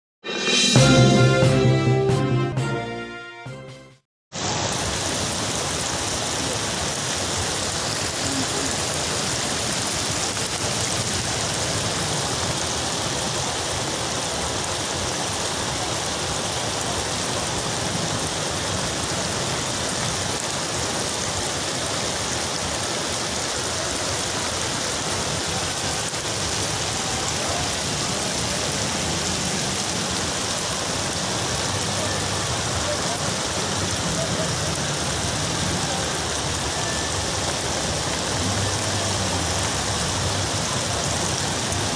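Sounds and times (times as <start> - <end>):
heavy rain pouring: 4.3 - 41.9.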